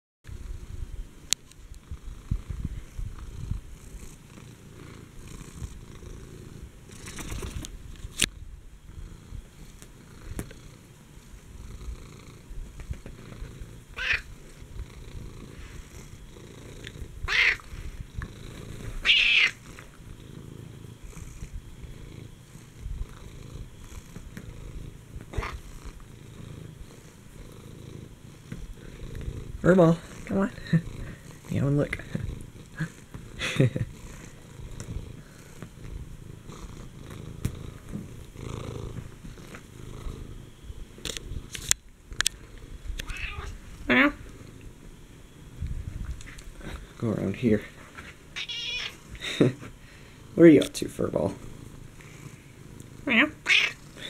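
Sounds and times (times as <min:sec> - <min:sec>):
cat purring: 0:00.3 - 0:54.0.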